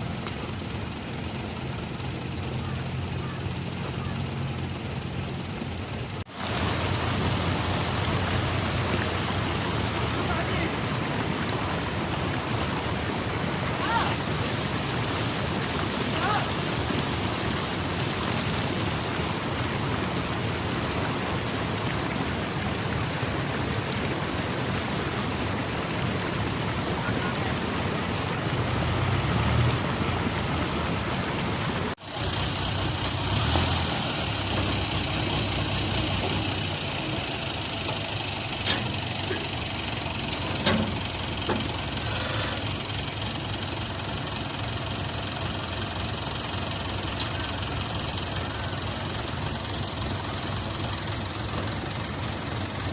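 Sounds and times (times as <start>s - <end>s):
heavy machine engine running: 0.0s - 52.9s.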